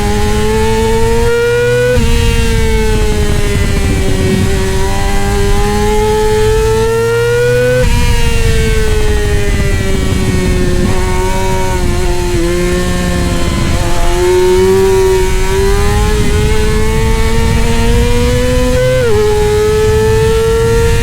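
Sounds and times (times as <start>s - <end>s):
motorcycle engine revving: 0.0s - 21.0s
rough rushing noise: 0.0s - 21.0s.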